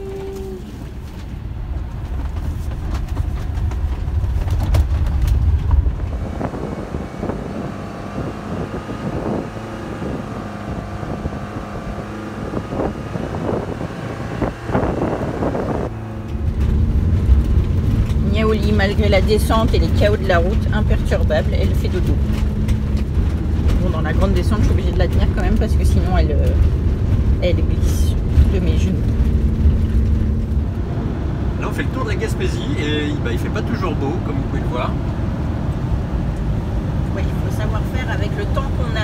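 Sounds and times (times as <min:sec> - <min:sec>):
engine and road rumble: 0:00.0 - 0:39.0.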